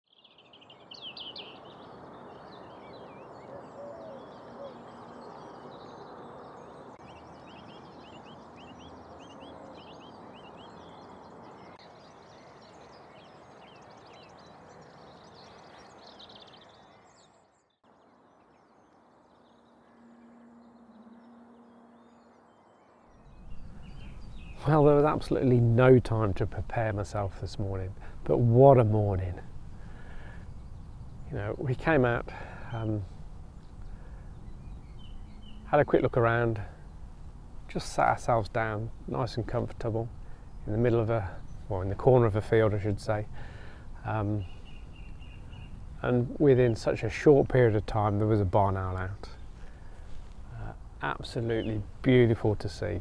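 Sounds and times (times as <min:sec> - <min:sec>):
small birds chirping: 0:00.1 - 0:53.0.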